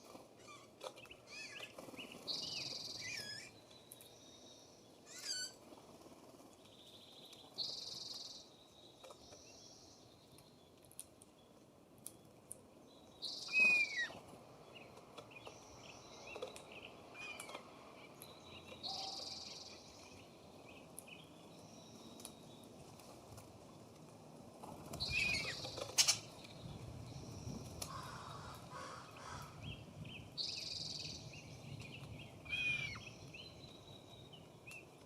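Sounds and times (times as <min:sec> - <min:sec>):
songbirds calling: 0:00.0 - 0:35.0
steady low background noise: 0:00.0 - 0:35.0.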